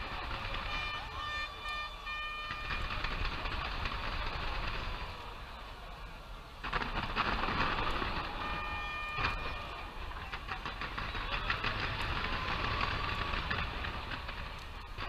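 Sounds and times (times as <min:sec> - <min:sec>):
firework bang: 0:00.0 - 0:05.4, 0:06.6 - 0:15.0
firework whistling: 0:00.0 - 0:15.0
fireworks crackling: 0:00.0 - 0:15.0.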